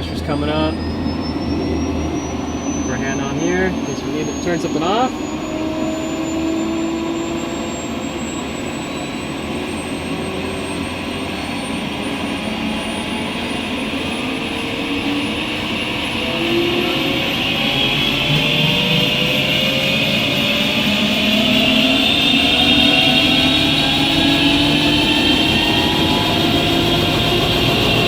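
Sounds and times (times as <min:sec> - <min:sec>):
turbine engine whine spooling up: 0:00.0 - 0:28.0.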